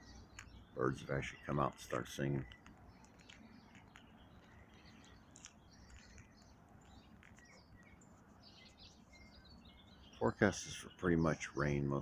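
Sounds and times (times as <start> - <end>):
birds chirping: 0.0 - 12.0
low steady background noise: 0.0 - 12.0.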